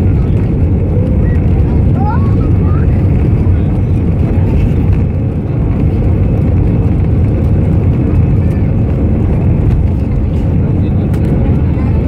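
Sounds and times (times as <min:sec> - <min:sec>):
airliner rolling on ground: 0:00.0 - 0:12.0
jet engines rumbling: 0:00.0 - 0:12.0.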